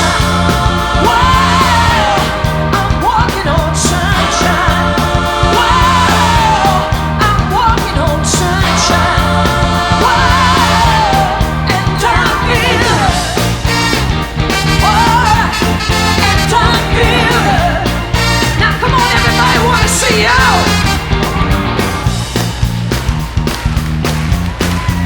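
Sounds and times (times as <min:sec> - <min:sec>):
pop-rock song with singing: 0:00.0 - 0:23.0.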